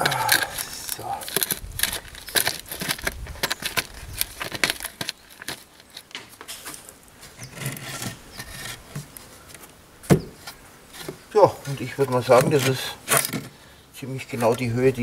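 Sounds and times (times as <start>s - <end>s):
gravel crunching and scraping: 0.0s - 15.0s.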